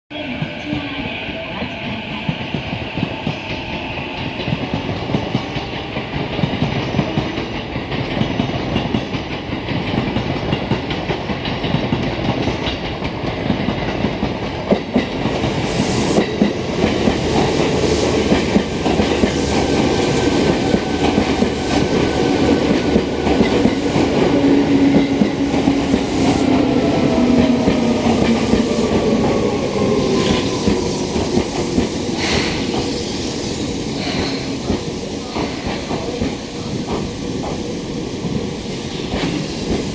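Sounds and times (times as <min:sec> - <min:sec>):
standing train humming: 0:00.1 - 0:39.9
train wheels rumbling: 0:00.2 - 0:39.9.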